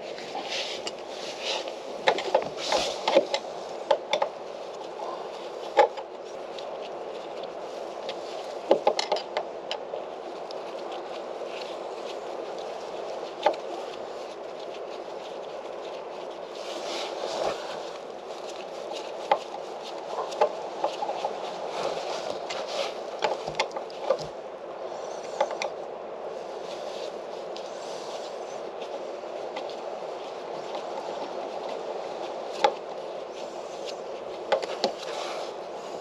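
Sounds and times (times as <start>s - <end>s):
knocks clicks and wood scraping: 0.0s - 16.1s, 16.8s - 24.4s, 29.5s - 35.4s
background hiss: 0.0s - 36.0s.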